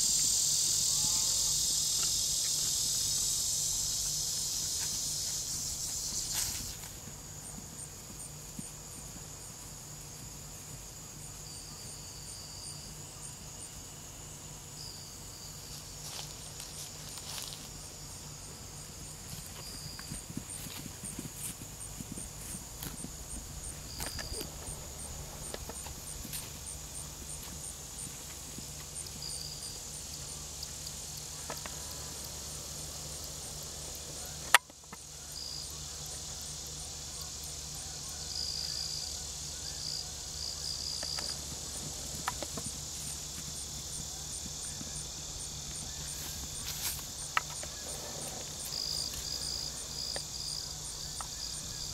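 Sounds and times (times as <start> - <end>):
insect chirping: 0.0 - 51.9
insect high-pitched trill: 0.0 - 51.9.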